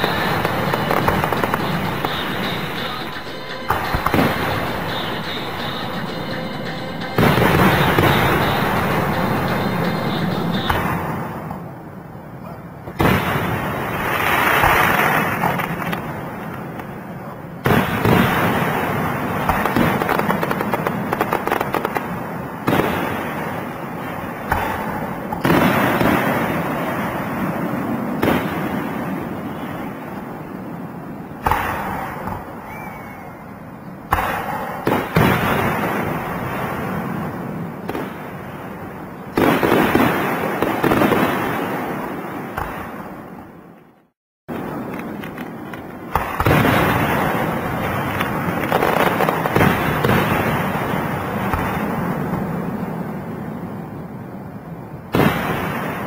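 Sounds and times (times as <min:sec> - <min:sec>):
fireworks bursting and crackling: 0:00.0 - 0:11.7, 0:12.9 - 0:32.6, 0:34.1 - 0:43.6, 0:44.5 - 0:53.5, 0:55.1 - 0:56.0.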